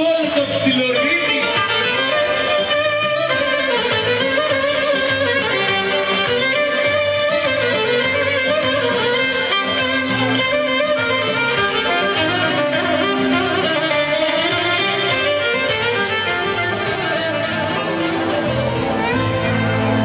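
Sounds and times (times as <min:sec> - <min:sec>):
violin-led dance music: 0:00.0 - 0:20.0.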